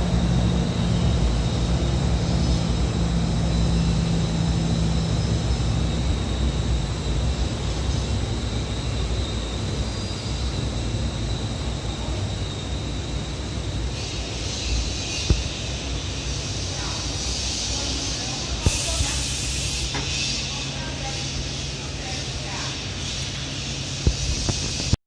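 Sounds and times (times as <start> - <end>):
low hum: 0.0 - 21.8
dense machine rumble: 0.0 - 25.0.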